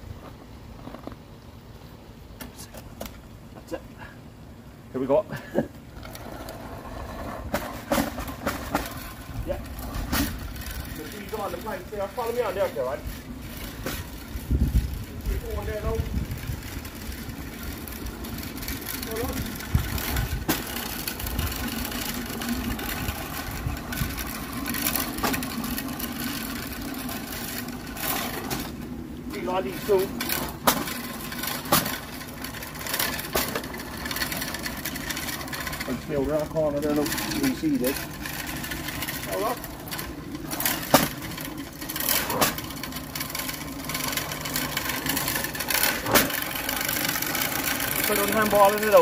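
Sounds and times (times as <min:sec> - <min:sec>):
spreader spinner whirring: 0:05.9 - 0:49.0.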